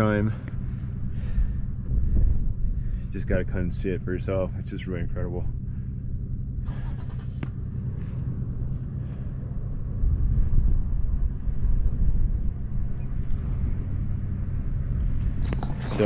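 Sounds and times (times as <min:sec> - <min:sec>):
off-road vehicle engine rumble: 0:00.0 - 0:16.0.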